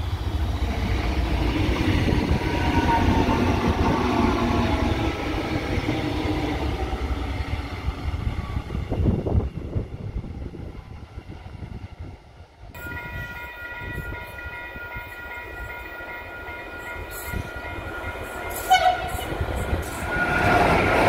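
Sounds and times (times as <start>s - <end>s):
faint train whine: 0.0s - 21.0s
train wheels rumbling on rails: 0.0s - 21.0s.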